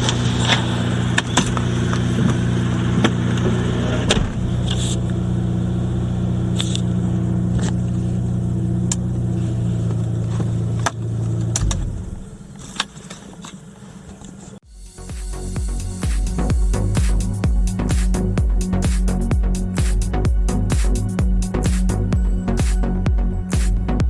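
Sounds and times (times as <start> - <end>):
car engine idling and stopping: 0.0 - 24.0.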